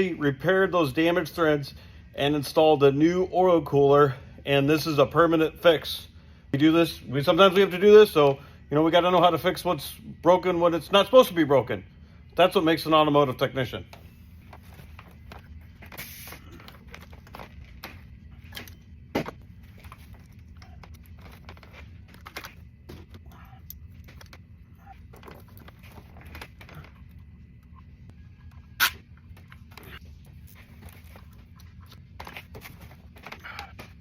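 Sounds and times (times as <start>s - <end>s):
low workshop hum: 0.0s - 34.0s.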